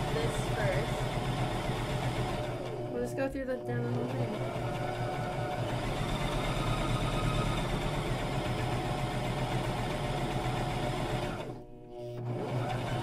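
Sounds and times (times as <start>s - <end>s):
sewing machine running: 0.0s - 11.6s, 12.2s - 13.0s.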